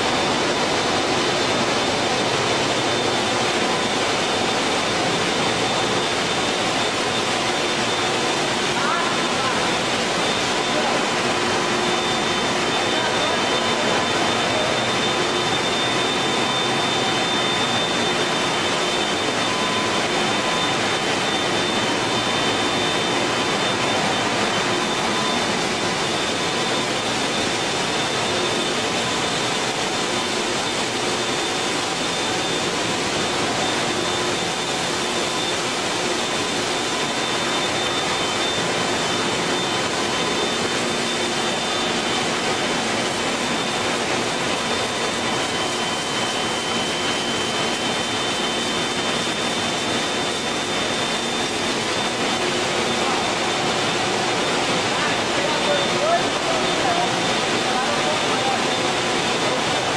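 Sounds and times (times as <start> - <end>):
faint high whines: 0.0 - 59.9
machinery rushing noise: 0.0 - 59.9.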